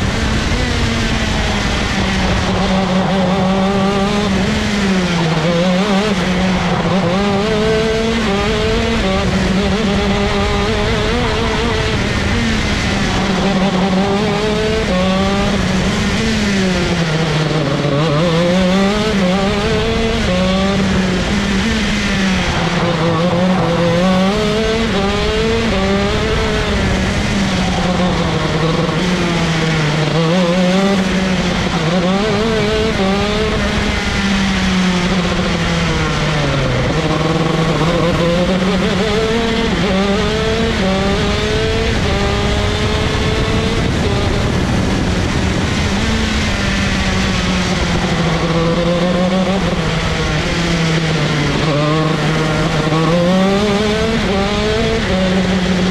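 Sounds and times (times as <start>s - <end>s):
kart engine revving high: 0.0s - 55.9s.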